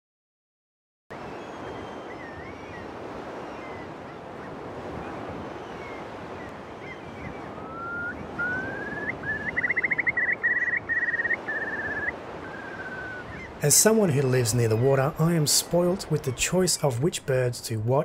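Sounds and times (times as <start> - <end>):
small waves lapping: 1.2 - 17.5
curlews calling: 1.2 - 17.6.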